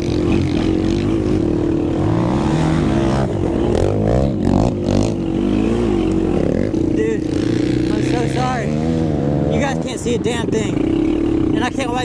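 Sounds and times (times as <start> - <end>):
quad engine revving: 0.0 - 12.0.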